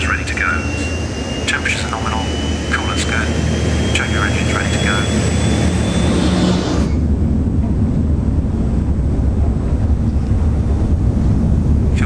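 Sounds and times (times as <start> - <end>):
deep jet engine rumble: 0.0 - 12.0
jet engine whine: 0.0 - 12.0.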